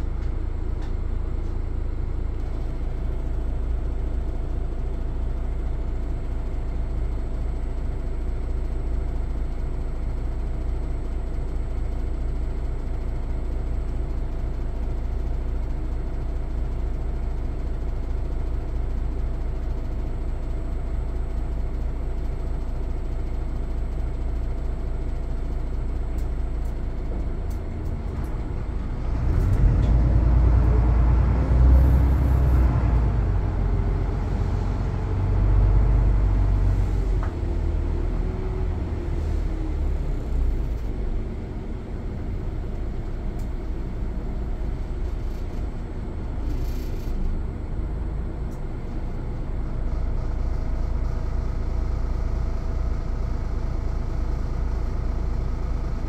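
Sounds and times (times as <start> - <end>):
bus engine and road drone: 0.0 - 56.0.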